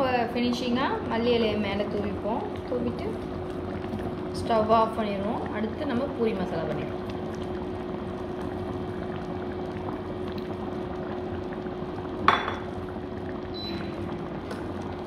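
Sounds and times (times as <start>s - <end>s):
curry bubbling in a pan: 0.0s - 15.0s.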